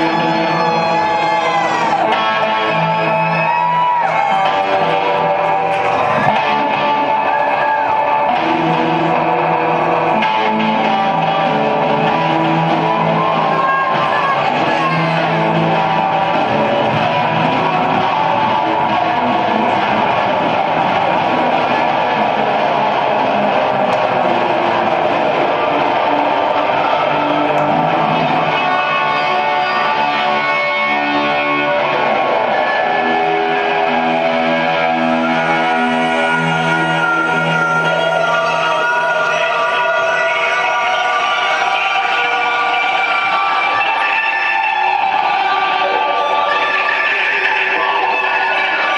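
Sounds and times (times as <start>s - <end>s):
electric guitar chords ringing: 0.0s - 46.8s
live rock band playing: 0.0s - 48.9s.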